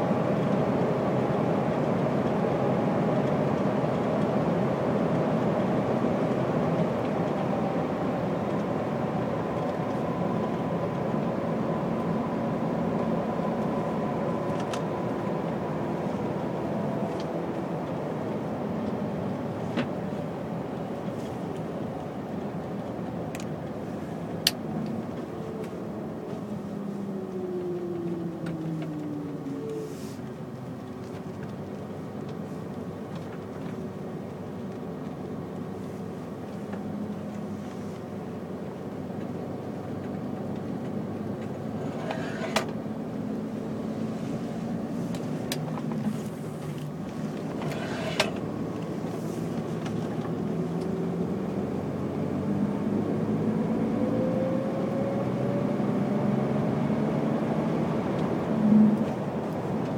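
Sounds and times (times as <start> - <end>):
lorry diesel engine from cab: 0.0 - 59.9.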